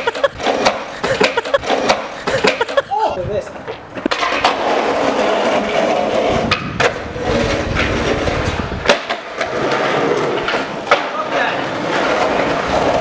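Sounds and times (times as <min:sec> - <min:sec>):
skateboard clacking on ground: 0:00.0 - 0:13.0
skateboard wheels rolling on concrete: 0:00.0 - 0:13.0.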